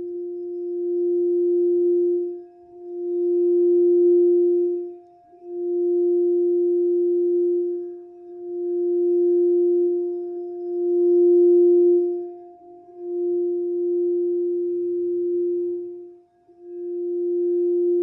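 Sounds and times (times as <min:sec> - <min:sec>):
crystal singing bowl tone: 0:00.0 - 0:18.0.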